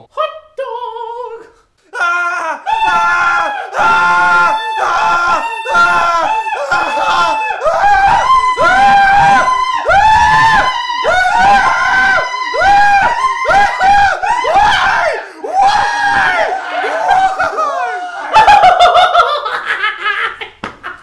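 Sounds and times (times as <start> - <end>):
people screaming: 2.0 - 20.0.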